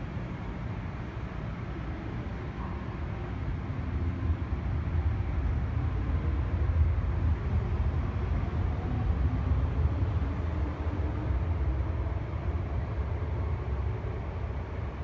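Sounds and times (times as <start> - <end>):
train rumbling through station: 0.0 - 15.0.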